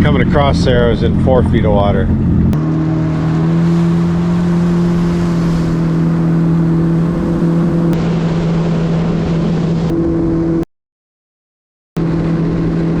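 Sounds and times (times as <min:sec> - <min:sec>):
personal watercraft engine droning: 0:00.0 - 0:10.6, 0:12.0 - 0:13.0.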